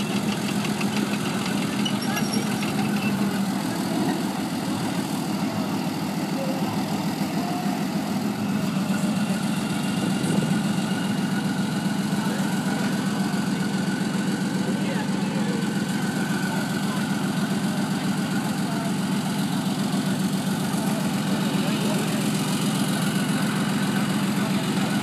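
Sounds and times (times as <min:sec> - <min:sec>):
faint voices: 0:00.0 - 0:25.0
tank diesel engine droning: 0:00.0 - 0:25.0.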